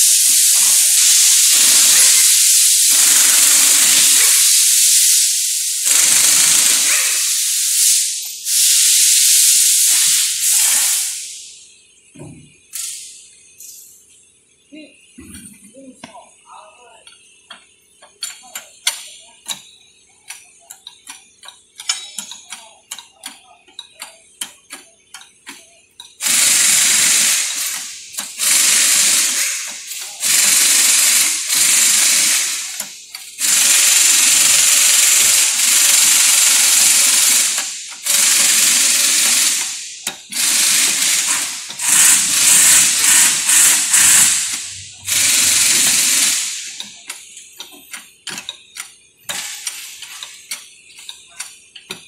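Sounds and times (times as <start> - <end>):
hissing pump bursts: 0.0 - 13.7, 16.9 - 52.0.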